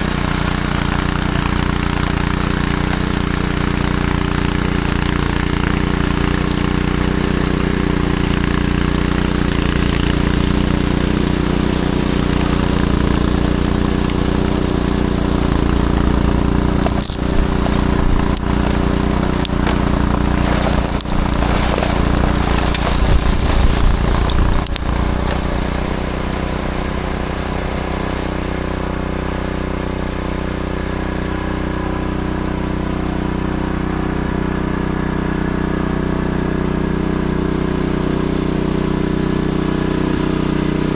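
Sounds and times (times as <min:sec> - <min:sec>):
snowblower engine running: 0:00.0 - 0:40.9.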